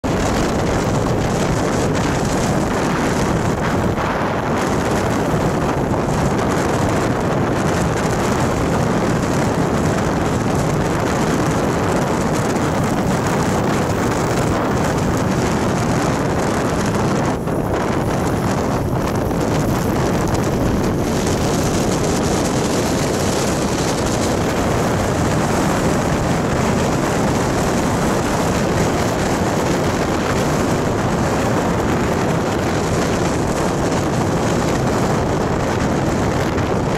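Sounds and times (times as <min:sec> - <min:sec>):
vehicle running noise: 0:00.0 - 0:36.9
wind noise on microphone: 0:00.0 - 0:36.9.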